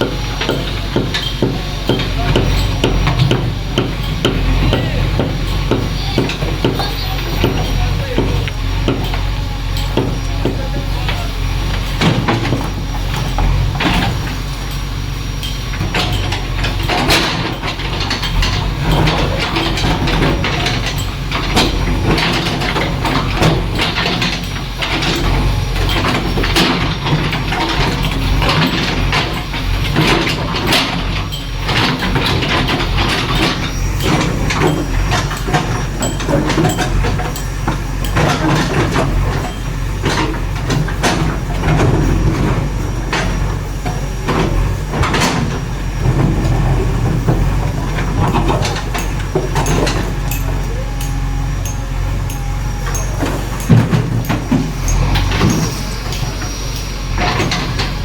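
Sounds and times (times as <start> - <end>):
diesel engine running: 0.0 - 58.0
knocks and clatters: 0.0 - 58.0.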